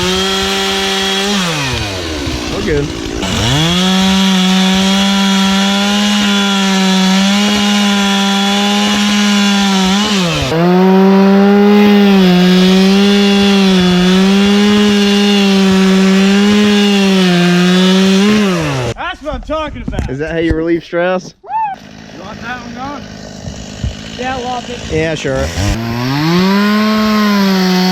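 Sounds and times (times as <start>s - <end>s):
chainsaw cutting wood: 0.0s - 19.0s, 21.8s - 27.9s.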